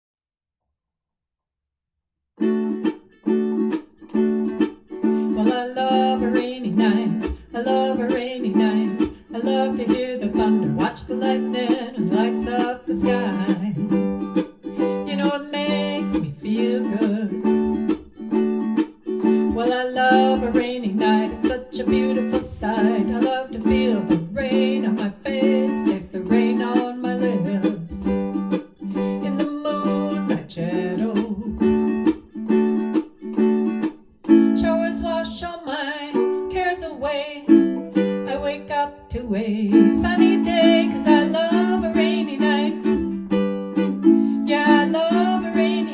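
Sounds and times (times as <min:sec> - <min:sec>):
ukulele strummed: 0:02.4 - 0:45.9
person singing: 0:05.0 - 0:18.0, 0:19.2 - 0:32.6, 0:34.3 - 0:45.9.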